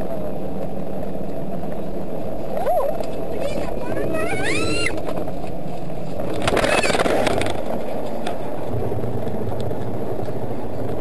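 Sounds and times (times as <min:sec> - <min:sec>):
car driving noise: 0:00.0 - 0:11.0.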